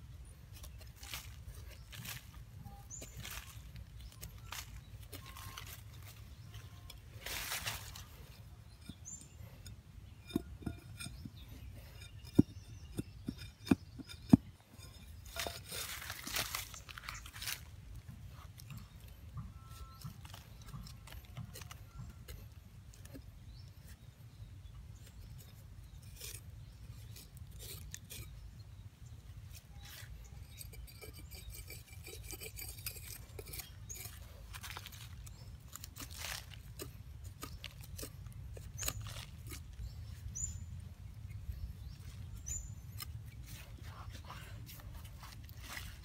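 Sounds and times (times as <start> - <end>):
metal blade scraping soil: 0.1 - 46.0.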